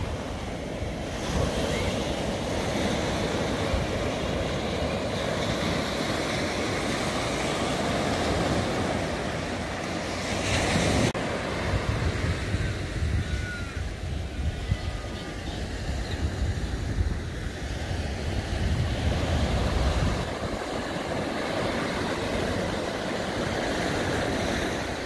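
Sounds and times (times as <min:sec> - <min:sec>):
waves washing up beach: 0:00.0 - 0:25.0
wind rumbling on microphone: 0:00.0 - 0:25.0.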